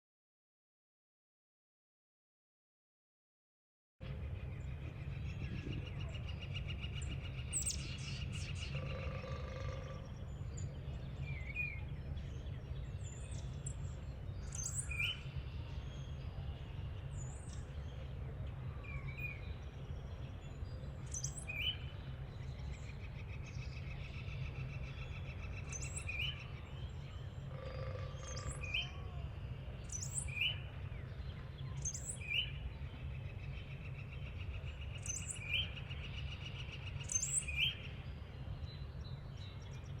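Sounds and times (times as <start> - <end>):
steady low rumble: 4.0 - 40.0
birds chirping: 4.1 - 40.0.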